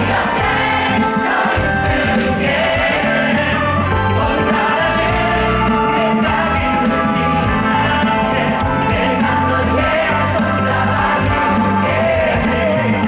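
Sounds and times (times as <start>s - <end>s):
crowd singing together: 0.0s - 13.0s
live band playing: 0.0s - 13.0s.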